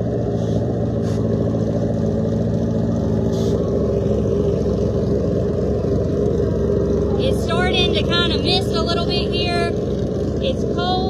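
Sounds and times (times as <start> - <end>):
drag racing engine idling: 0.0 - 11.0.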